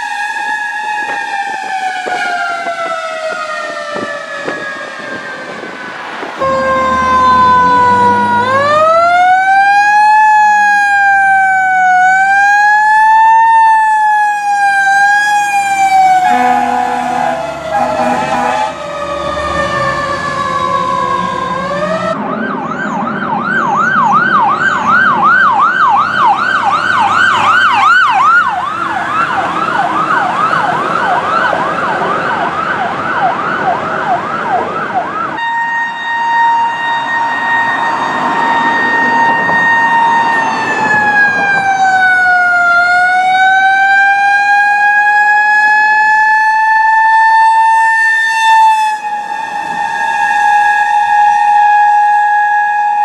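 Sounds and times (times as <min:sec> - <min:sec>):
fire truck engine: 0:00.0 - 0:53.0
fire truck siren: 0:00.0 - 0:53.0.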